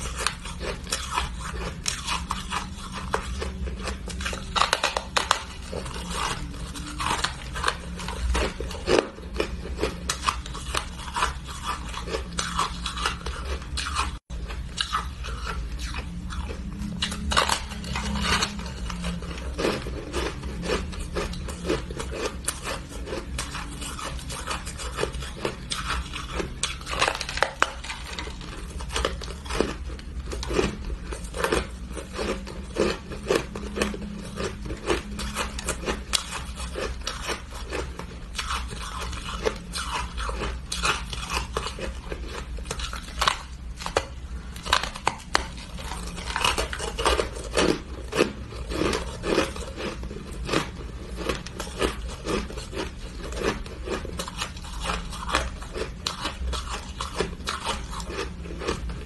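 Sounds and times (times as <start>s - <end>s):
ice crunching being chewed: 0.0s - 59.0s.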